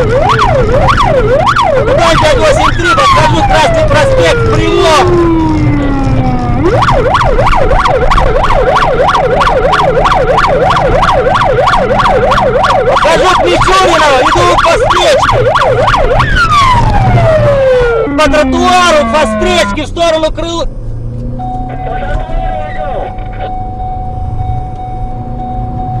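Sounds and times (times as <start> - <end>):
electronic siren wailing and yelping: 0.0 - 19.9, 21.4 - 26.0
low engine rumble: 0.0 - 26.0.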